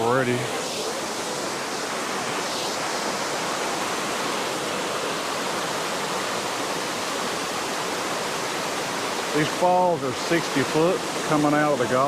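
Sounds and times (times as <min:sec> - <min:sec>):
waterfall pouring and splashing: 0:00.0 - 0:12.0.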